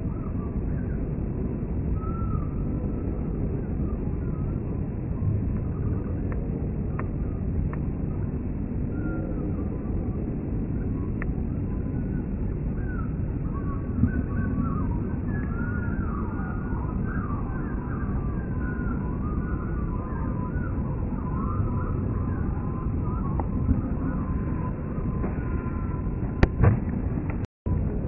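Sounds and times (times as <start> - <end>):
jet rumble overhead: 0.0 - 28.0
thin steady whine: 0.0 - 28.0
warbling gliding tones: 2.5 - 28.0.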